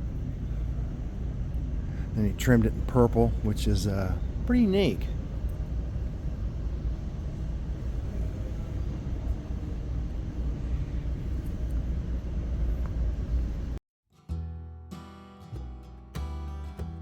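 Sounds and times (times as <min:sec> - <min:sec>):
indoor hall rumble: 0:00.0 - 0:13.8.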